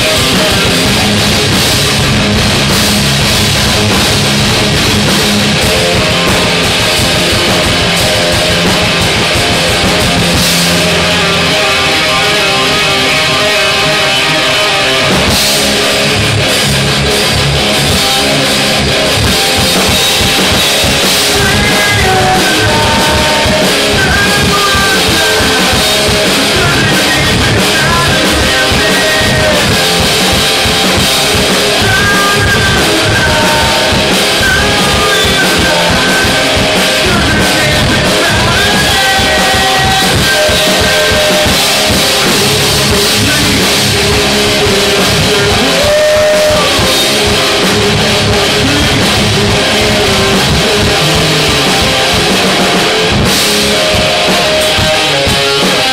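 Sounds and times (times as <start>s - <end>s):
drum kit pounding: 0.0s - 55.9s
electric guitars: 0.0s - 55.9s
rock band playing live: 0.0s - 55.9s.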